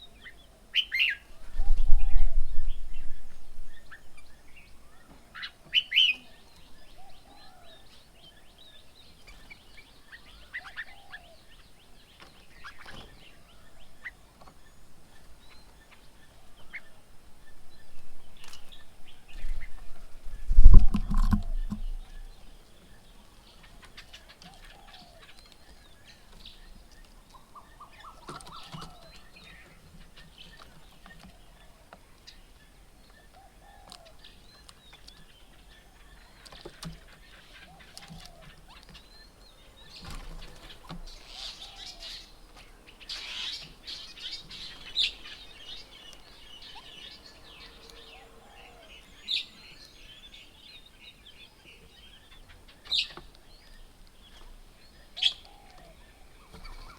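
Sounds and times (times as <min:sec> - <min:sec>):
birds chirping and chattering: 0:00.0 - 0:56.9.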